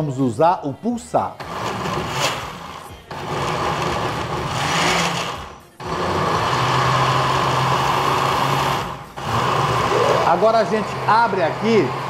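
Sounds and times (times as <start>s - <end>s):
blender motor running: 1.4s - 12.0s.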